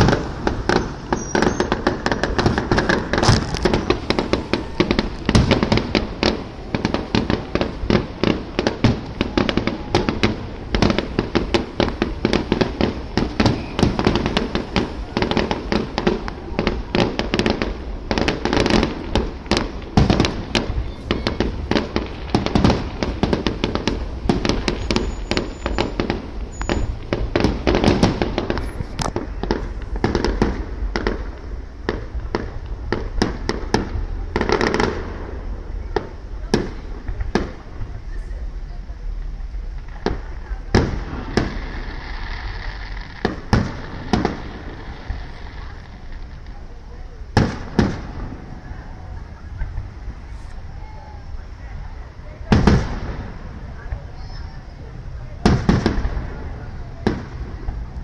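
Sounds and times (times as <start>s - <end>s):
fireworks bursting with sharp bangs: 0.0s - 58.0s.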